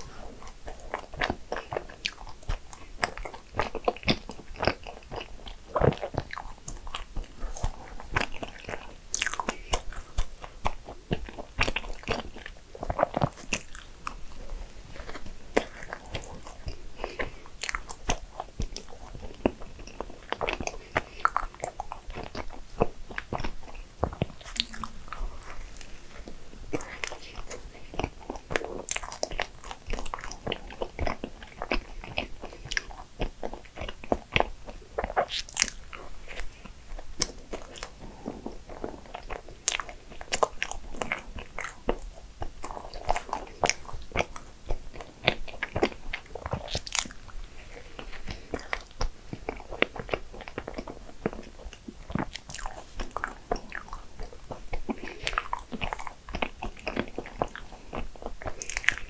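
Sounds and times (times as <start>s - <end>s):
chewing with wet mouth clicks: 0.0s - 59.0s.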